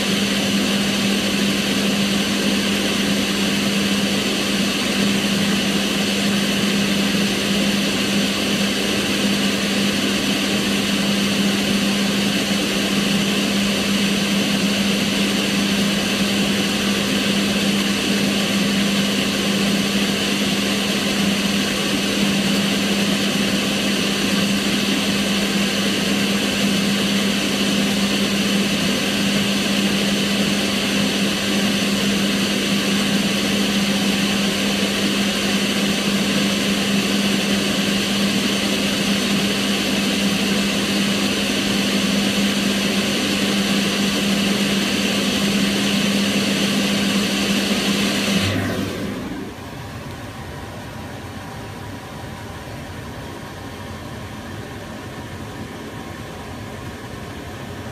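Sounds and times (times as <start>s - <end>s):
fan motor hum: 0.0s - 57.9s
range hood fan rushing air: 0.0s - 57.9s.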